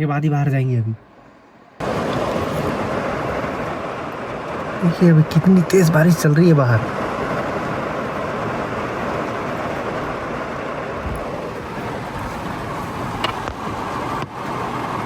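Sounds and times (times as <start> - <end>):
heavy rain on a car: 1.8 - 15.0.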